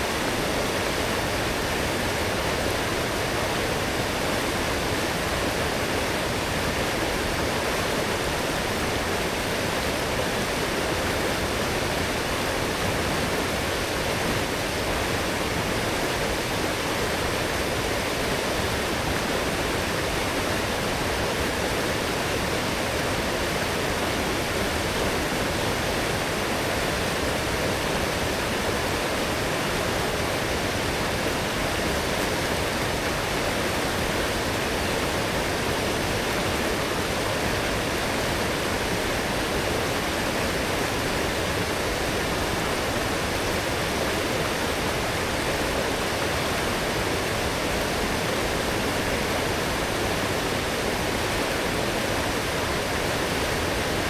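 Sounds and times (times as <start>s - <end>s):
stream water rushing over rocks: 0.0s - 54.0s.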